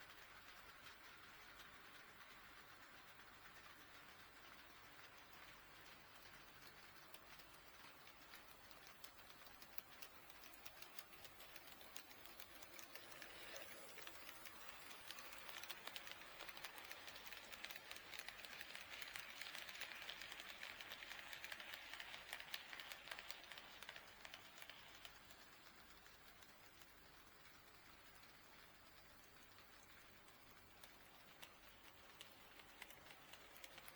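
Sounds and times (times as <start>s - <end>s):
model train rolling noise: 0.0s - 33.9s
model train wheels clicking: 0.0s - 33.9s.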